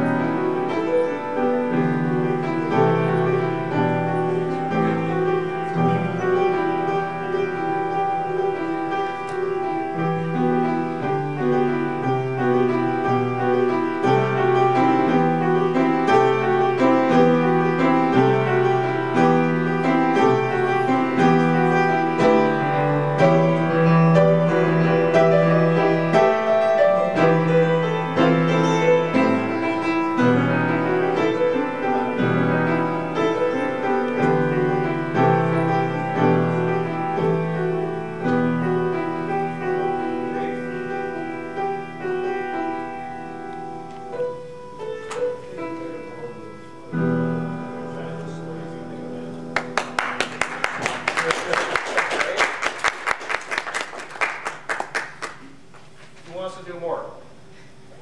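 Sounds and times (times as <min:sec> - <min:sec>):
solo piano chords: 0:00.0 - 0:53.6.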